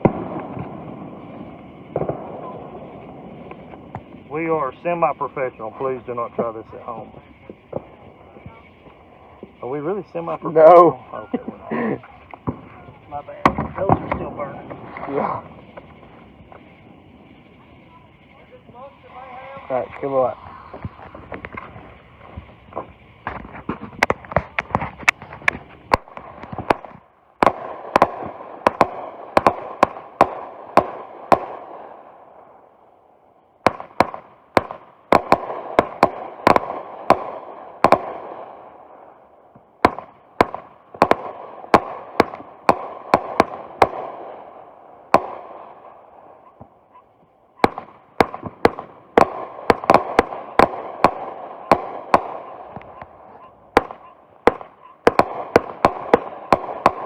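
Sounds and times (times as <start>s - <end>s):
fireworks bangs: 0.0s - 57.0s
fireworks rushing noise: 0.0s - 57.0s.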